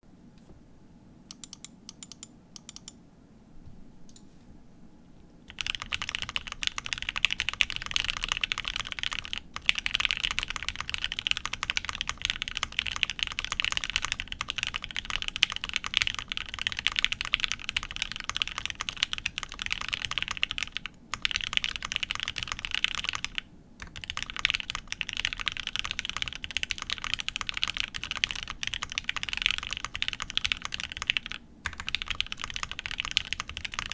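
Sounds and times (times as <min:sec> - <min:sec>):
mechanical keyboard typing: 0:05.5 - 0:33.9.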